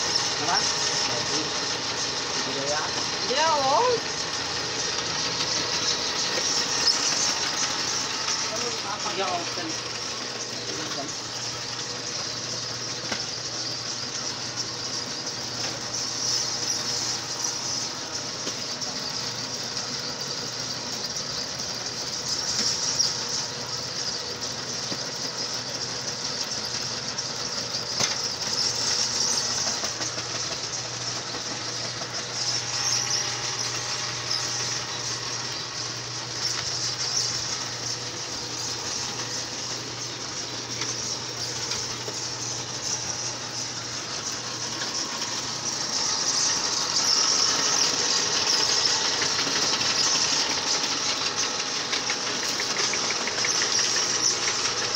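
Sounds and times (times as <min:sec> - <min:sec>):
machine knocking: 0:00.0 - 0:54.9
mixing machine humming: 0:00.0 - 0:54.9.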